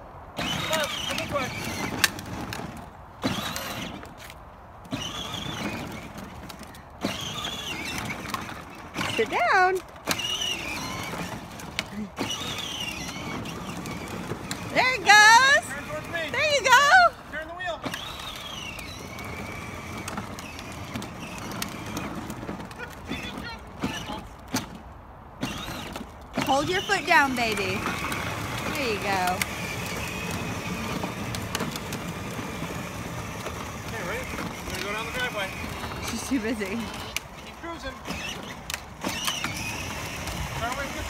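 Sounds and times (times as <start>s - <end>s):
plastic wheels rolling on asphalt: 0.1s - 41.0s
toy car electric drive whining: 0.4s - 24.8s, 25.4s - 41.0s.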